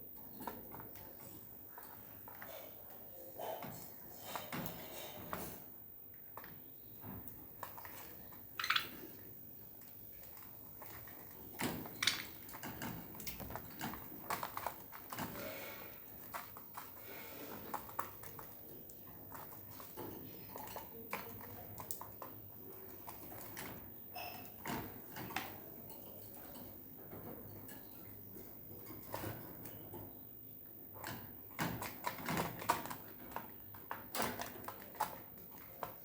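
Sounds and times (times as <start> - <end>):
birds tapping and scratching: 6.4 - 36.0.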